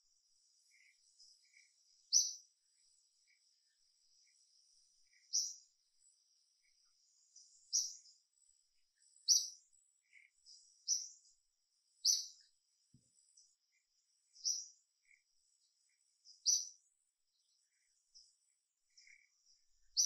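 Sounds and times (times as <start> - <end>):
faint steady high whine: 0.0 - 20.0.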